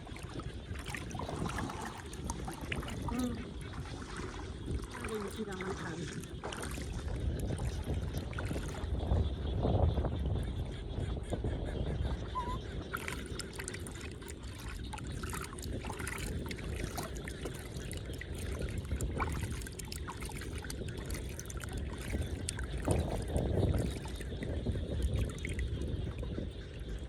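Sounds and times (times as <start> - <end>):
water splashing and trickling: 0.0 - 9.3, 12.4 - 27.0
steady low rumble: 0.0 - 27.0.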